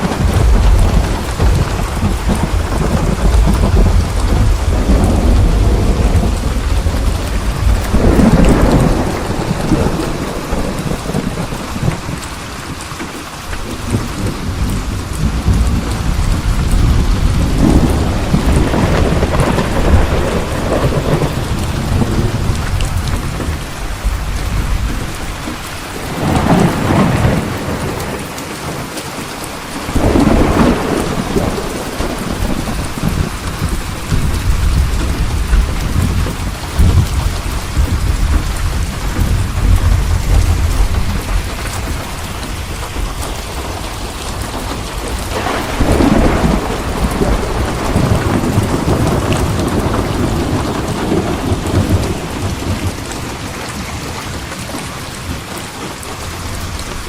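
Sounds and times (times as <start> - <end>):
heavy rain: 0.0 - 57.0
thunder rumbling and cracking: 0.0 - 57.0.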